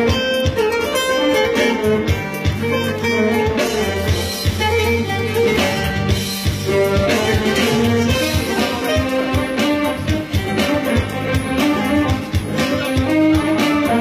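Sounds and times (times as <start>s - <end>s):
bass line: 0.0s - 14.0s
plucked-string melody: 0.0s - 14.0s.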